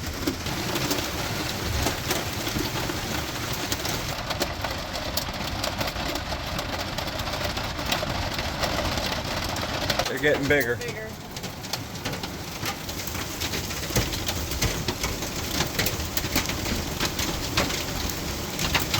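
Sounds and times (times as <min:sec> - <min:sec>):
hail pattering on metal: 0:00.0 - 0:18.9.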